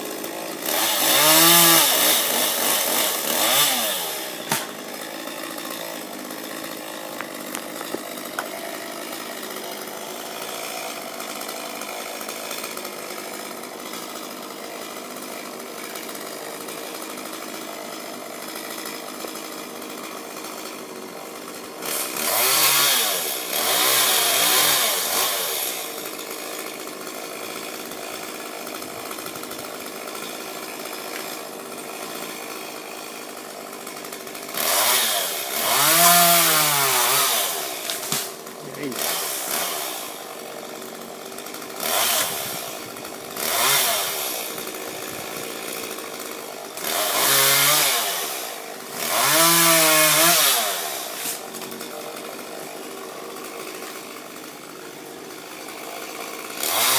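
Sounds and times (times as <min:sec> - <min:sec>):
chainsaw engine idling and revving: 0:00.0 - 0:56.9.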